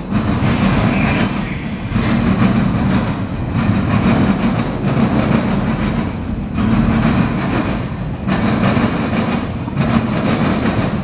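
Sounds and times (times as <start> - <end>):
freight train wheels clattering: 0.0 - 11.0.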